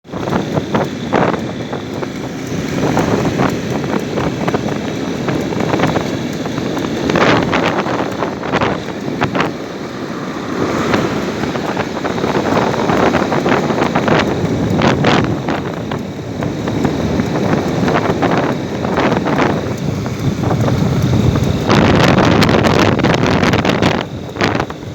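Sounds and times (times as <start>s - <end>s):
wind rumbling on microphone: 0.0s - 24.9s.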